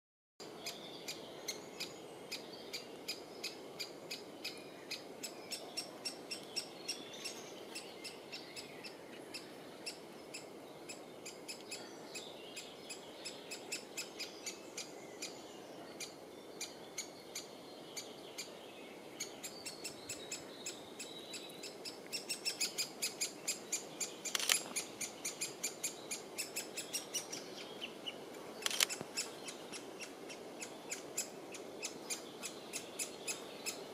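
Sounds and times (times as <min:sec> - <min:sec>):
woodpecker nestling calling: 0:00.6 - 0:11.9, 0:12.6 - 0:15.4, 0:19.2 - 0:33.9.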